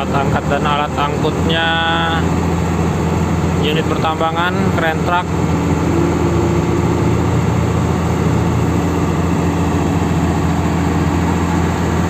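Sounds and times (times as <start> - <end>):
heavy diesel engine idling: 0.0 - 12.0.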